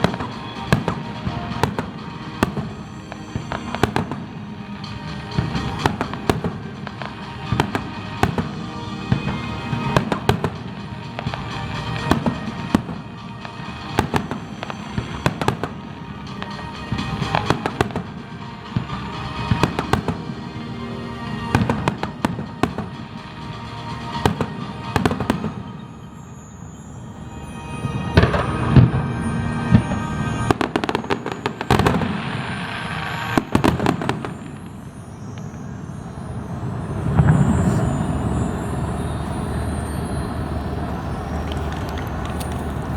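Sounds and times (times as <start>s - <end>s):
fireworks bangs and crackles: 0.0s - 42.9s
music playing: 0.0s - 42.9s.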